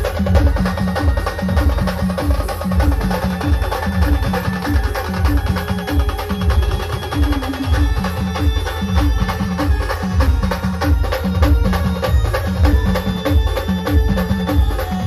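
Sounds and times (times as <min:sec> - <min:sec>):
heavy drum beats: 0:00.0 - 0:15.0
sharp percussion strokes: 0:00.0 - 0:15.0.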